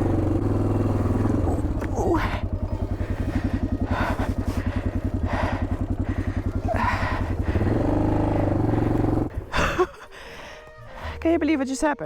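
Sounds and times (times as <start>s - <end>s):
motorcycle engine chugging: 0.0s - 10.0s.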